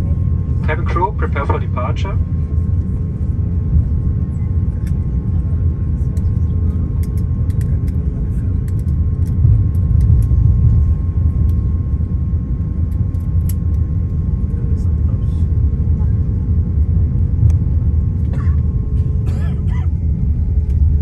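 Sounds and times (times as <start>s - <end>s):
aircraft engines low rumble: 0.0s - 21.0s.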